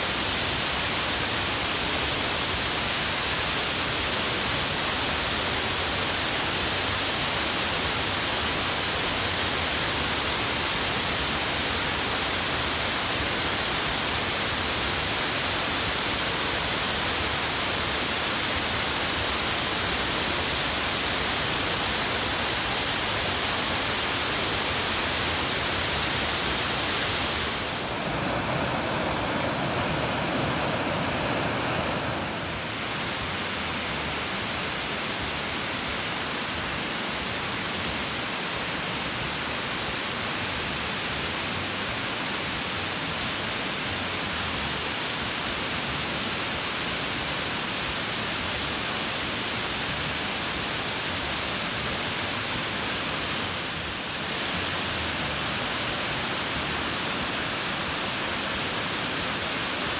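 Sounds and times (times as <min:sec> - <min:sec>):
waterfall rushing into a pool: 0:00.0 - 0:59.9.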